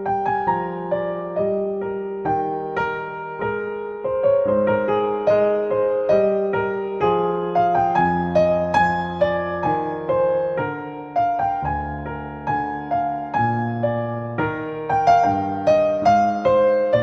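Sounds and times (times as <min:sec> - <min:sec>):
solo piano piece: 0:00.0 - 0:17.0.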